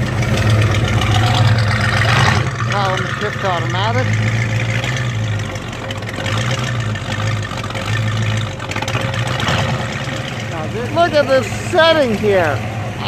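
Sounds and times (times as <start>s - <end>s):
car engine idling rumble: 0.0s - 13.0s.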